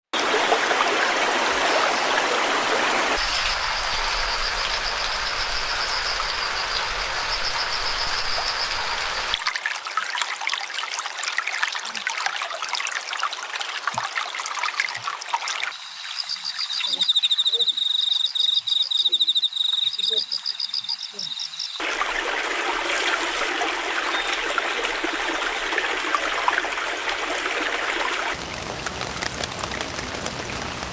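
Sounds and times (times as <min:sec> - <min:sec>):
stream running water: 0:00.1 - 0:30.9
crackly water trickle: 0:00.2 - 0:30.9.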